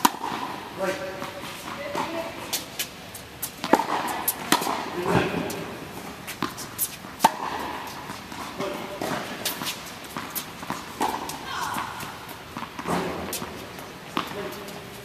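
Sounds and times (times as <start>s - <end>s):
balls bouncing on hard court: 0.0s - 2.7s, 3.5s - 15.0s
tennis balls struck by racket: 0.0s - 15.0s.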